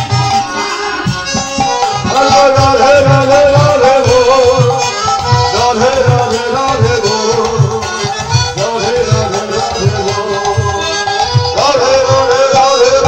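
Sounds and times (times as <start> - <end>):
person singing: 0.0 - 13.0
reed instrument: 0.0 - 13.0.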